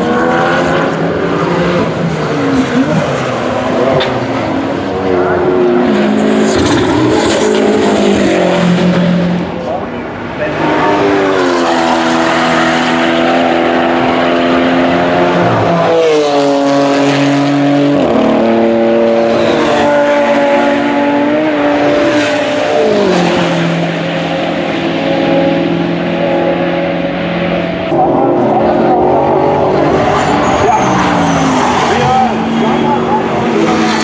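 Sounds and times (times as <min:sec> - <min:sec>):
racing car engine at high revs: 0:00.0 - 0:34.0.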